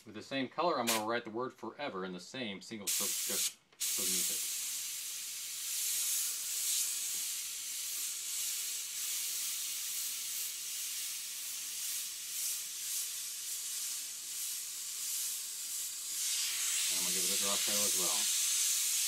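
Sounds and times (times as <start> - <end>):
airbrush hissing: 2.9 - 19.0.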